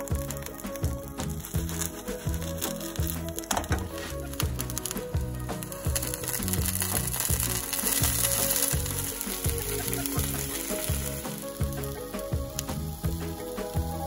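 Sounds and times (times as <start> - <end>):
background music: 0.0 - 14.0
omelette sizzling in a pan: 0.0 - 14.0.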